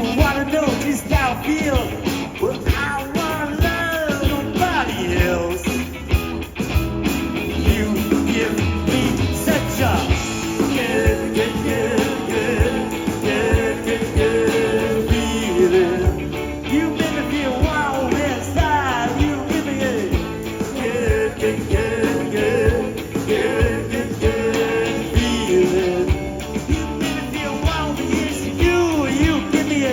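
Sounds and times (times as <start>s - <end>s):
bending lead guitar lines: 0.0s - 29.9s
blues-rock band playing: 0.0s - 29.9s
steady drum beat: 0.0s - 29.9s.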